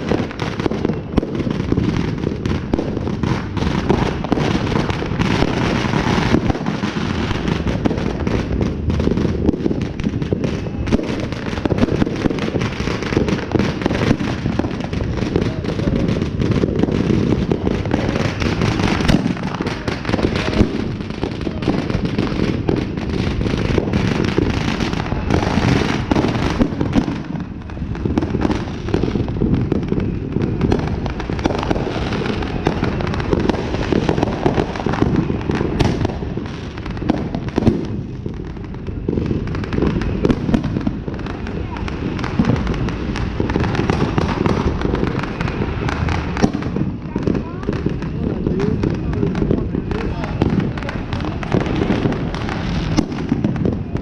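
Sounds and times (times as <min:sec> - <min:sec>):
fireworks and firecrackers banging: 0:00.0 - 0:54.0.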